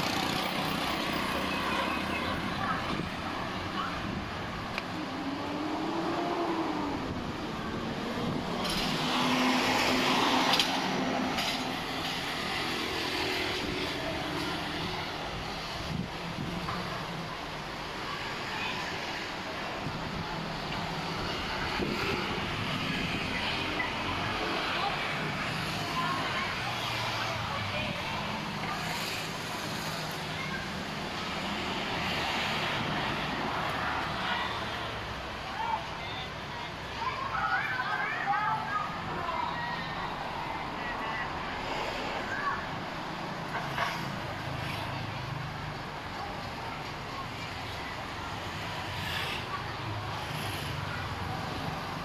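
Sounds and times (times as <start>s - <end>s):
traffic noise: 0.0s - 52.0s.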